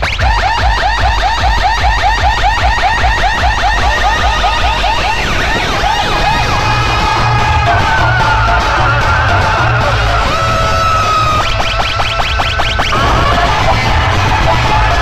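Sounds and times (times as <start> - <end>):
heavy bass: 0.0 - 15.0
siren-like electronic chirps: 0.0 - 15.0.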